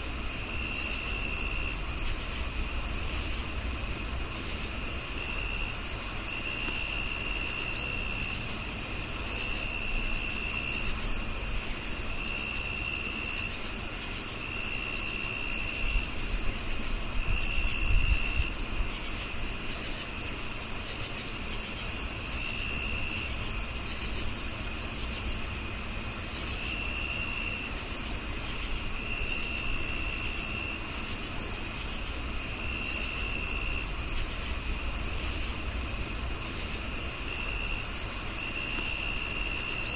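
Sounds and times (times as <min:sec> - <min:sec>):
continuous high cricket trill: 0:00.0 - 0:39.9
cricket chirping regularly: 0:00.0 - 0:39.9
pulsing lower cricket trill: 0:00.0 - 0:39.9.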